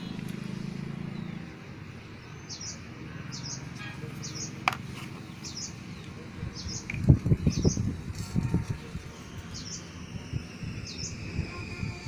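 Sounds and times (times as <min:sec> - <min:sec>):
small bird chirping: 0:02.2 - 0:12.0.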